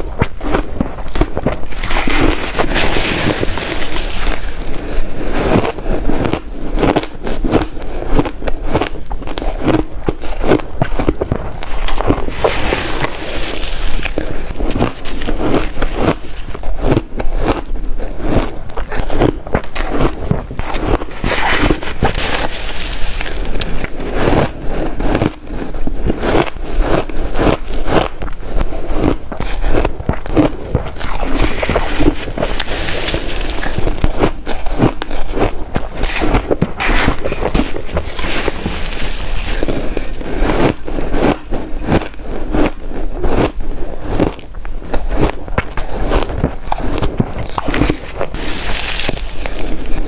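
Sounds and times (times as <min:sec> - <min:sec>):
ice crunched between teeth: 0:00.0 - 0:50.0.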